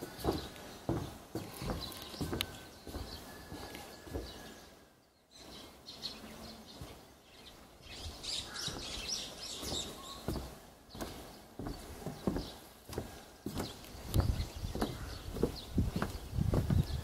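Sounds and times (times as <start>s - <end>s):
soft footsteps: 0.0s - 4.8s, 6.6s - 17.0s
small birds chirping: 0.0s - 17.0s.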